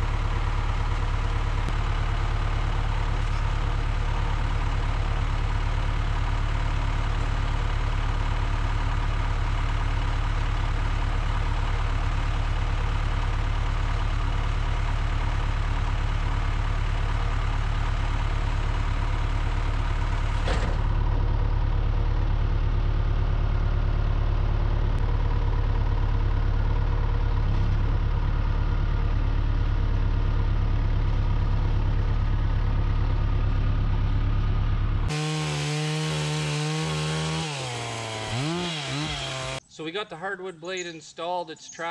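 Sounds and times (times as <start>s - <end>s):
engine idling: 0.0s - 39.7s.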